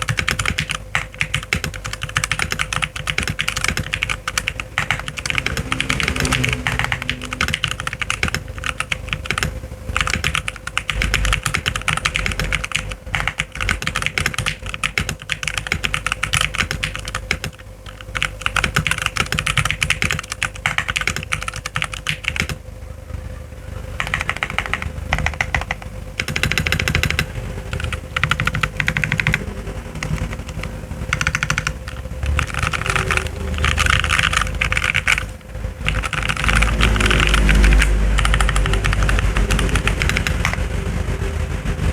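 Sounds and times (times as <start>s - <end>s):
mechanical keyboard typing: 0.0s - 22.6s, 24.0s - 40.7s.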